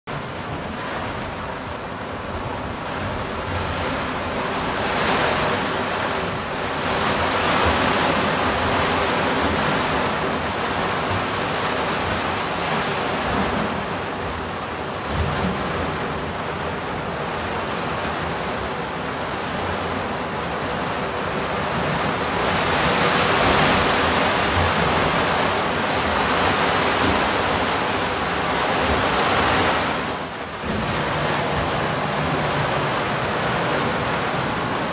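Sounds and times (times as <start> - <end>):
heavy rain on boat cabin: 0.1 - 34.9.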